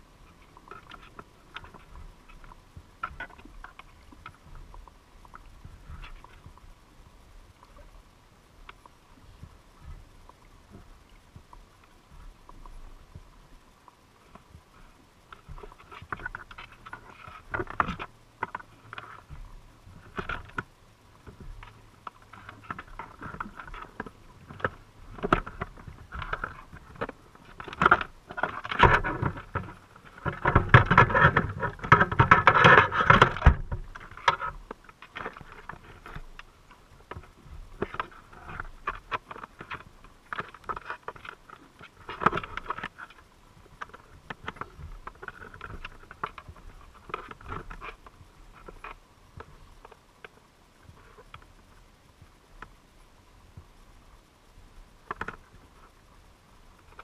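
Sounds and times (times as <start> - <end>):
underwater crackling clicks: 0.2 - 6.8, 8.6 - 52.8, 54.9 - 56.0.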